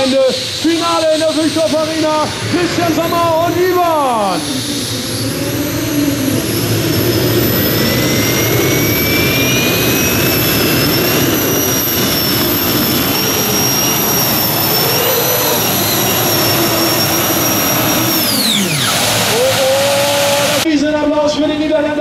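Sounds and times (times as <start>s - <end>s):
turbine engines whining: 0.0s - 22.0s.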